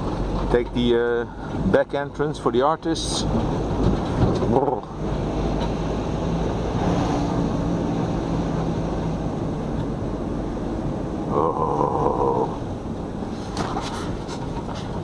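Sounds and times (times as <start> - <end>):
car engine droning: 0.0 - 15.0
tyre noise on road: 0.0 - 15.0.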